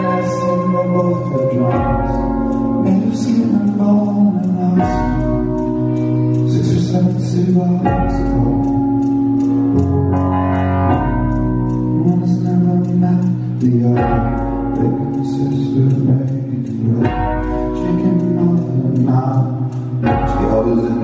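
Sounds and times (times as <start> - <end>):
man singing: 0.0 - 9.3, 11.8 - 21.0
bass notes: 0.0 - 21.0
keyboard chords: 0.0 - 21.0.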